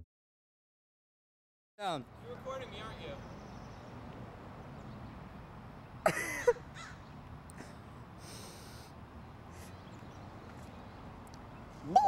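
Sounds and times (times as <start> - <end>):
steady outdoor hiss: 1.8 - 12.0.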